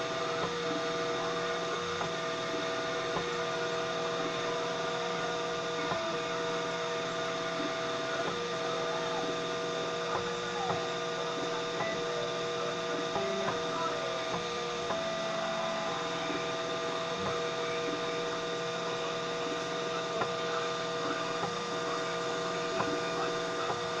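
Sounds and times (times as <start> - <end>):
constant hum: 0.0 - 24.0
stepper motors whirring: 0.0 - 24.0.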